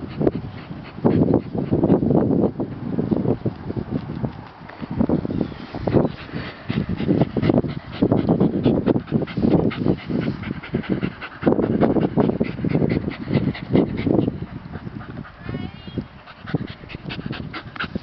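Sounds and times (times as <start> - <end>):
dog panting and sniffing: 0.0 - 2.7, 5.6 - 18.0.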